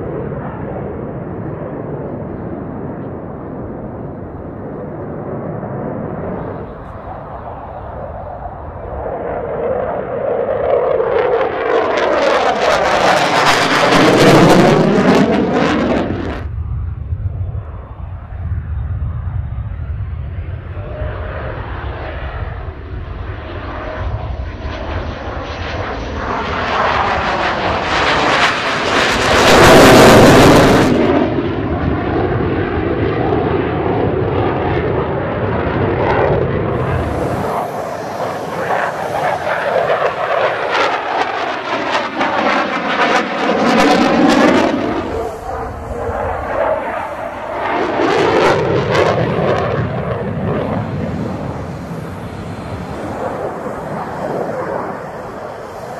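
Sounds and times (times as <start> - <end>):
jet engine roar: 0.0 - 55.9.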